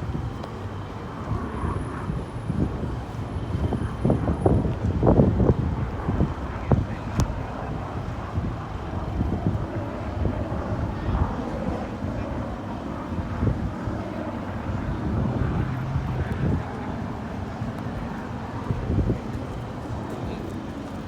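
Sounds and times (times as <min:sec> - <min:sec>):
distant voices murmuring: 0:00.0 - 0:21.0
wind buffeting microphone: 0:00.0 - 0:21.0.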